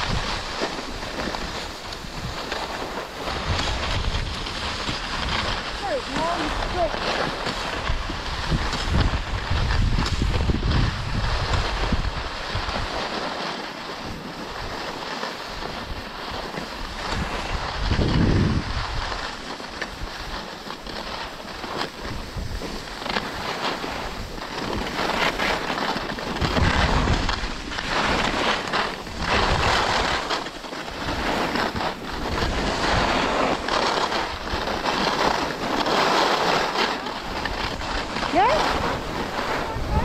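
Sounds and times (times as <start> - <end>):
wind on microphone: 0.0 - 13.2, 14.0 - 40.0
skis scraping over snow: 0.0 - 40.0.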